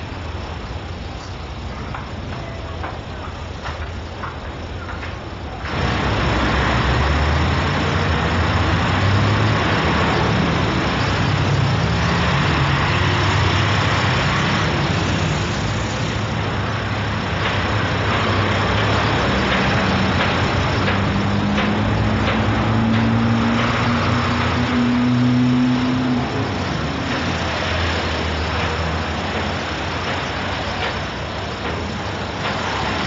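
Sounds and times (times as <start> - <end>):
heavy vehicle engines droning: 0.0 - 33.0.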